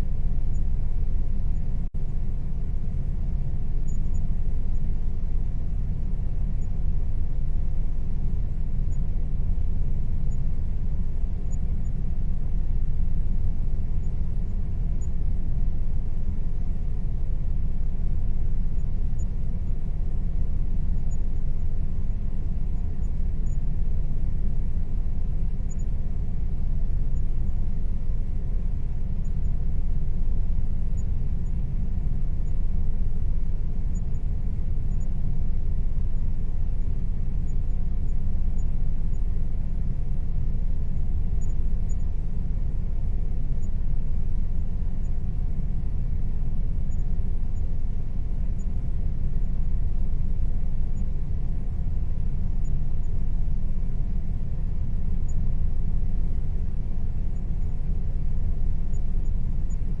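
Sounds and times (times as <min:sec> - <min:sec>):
air conditioner rumble: 0:00.0 - 1:00.0
faint steady hum: 0:00.0 - 1:00.0.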